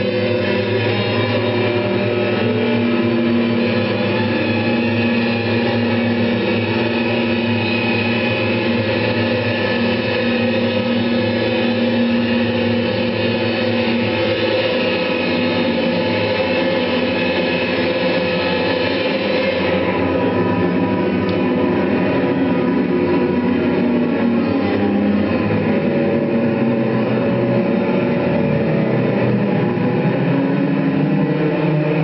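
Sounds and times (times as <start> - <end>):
dense drone of held tones: 0.0 - 32.0.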